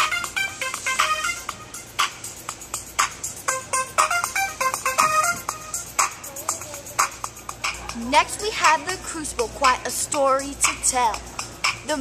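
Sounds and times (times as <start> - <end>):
hip-hop drum beat: 0.0 - 12.0.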